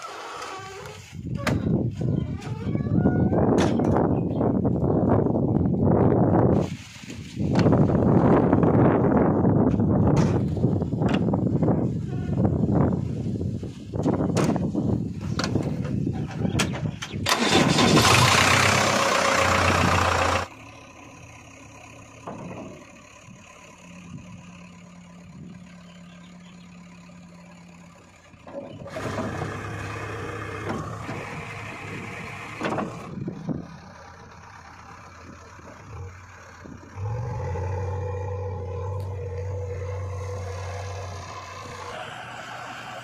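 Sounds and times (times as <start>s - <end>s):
diesel engine cranking and starting: 0.0s - 43.0s
diesel engine idling: 0.1s - 43.0s.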